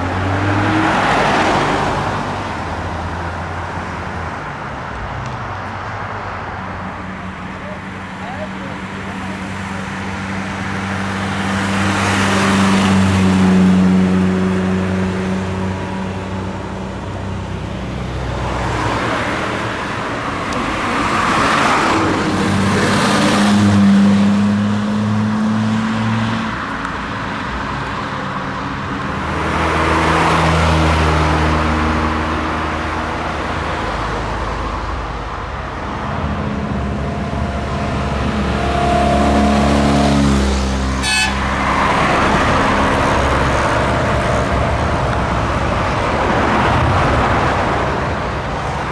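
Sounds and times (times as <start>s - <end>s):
cars driving past: 0.0s - 48.9s.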